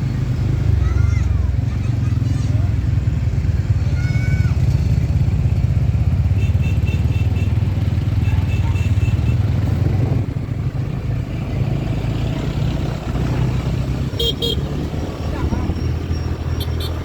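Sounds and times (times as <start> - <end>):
motorbike engines rumbling: 0.0 - 17.0.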